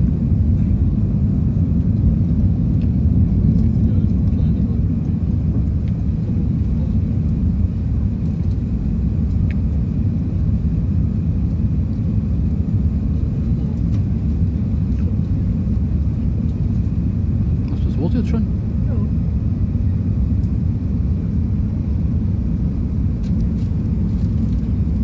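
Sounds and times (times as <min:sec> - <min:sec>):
jet engine roar in cabin: 0:00.0 - 0:25.0.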